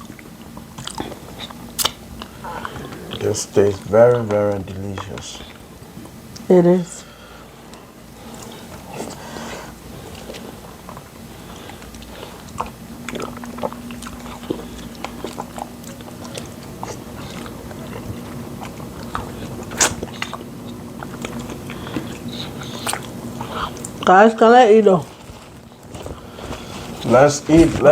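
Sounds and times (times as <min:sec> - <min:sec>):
chewing with wet mouth clicks: 0:00.0 - 0:06.5, 0:07.7 - 0:24.2
faint steady hum: 0:00.0 - 0:27.9.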